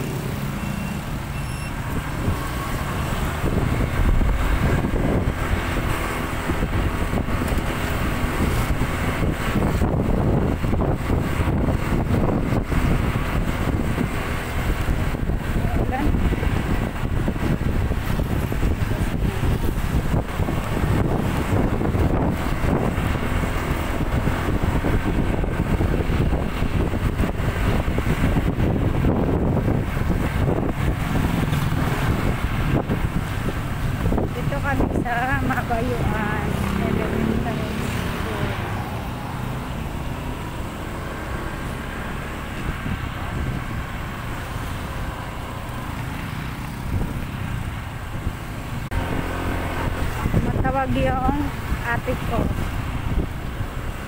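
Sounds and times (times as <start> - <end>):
motorcycle engine and road noise: 0.0 - 54.0
wind rumbling on microphone: 0.0 - 54.0.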